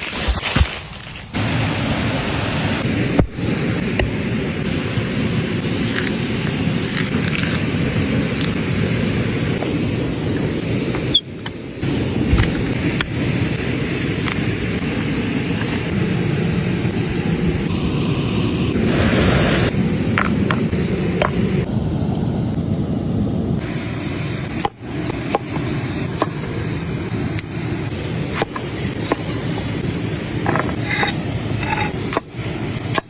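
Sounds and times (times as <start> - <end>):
log fire hissing and crackling: 0.0 - 21.7, 23.6 - 33.0.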